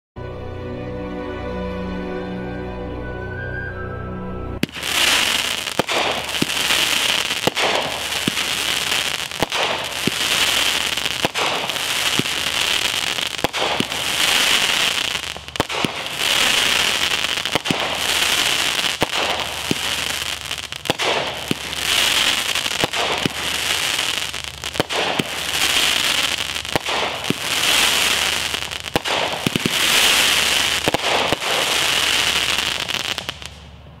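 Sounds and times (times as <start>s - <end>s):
firework launch reports: 4.6s - 33.6s
firework crackle: 4.6s - 33.8s.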